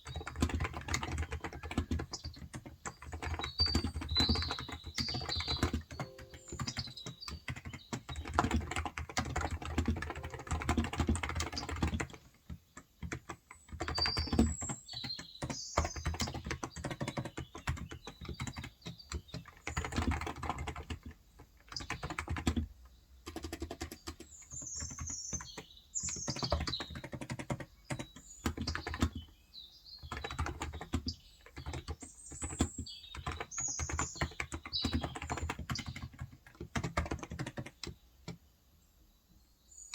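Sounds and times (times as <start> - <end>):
birds chirping: 0.0 - 22.6, 23.2 - 38.3
keyboard typing: 0.0 - 29.3, 30.0 - 38.4.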